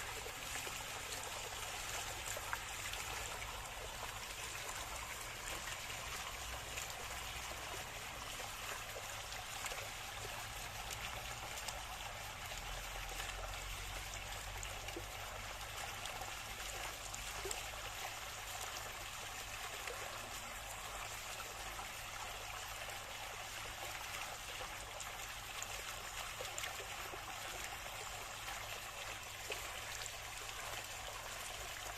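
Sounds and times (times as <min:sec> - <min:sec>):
water trickling: 0:00.0 - 0:31.9.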